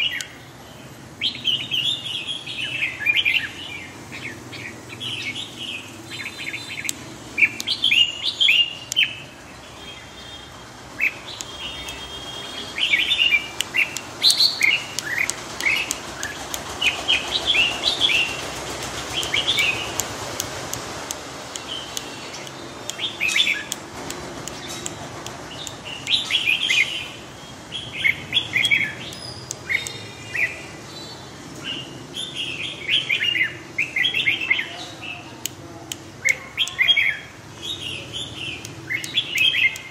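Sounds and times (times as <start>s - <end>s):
bird singing chirpy warbles: 0.0s - 20.0s, 21.5s - 35.4s, 36.2s - 39.9s.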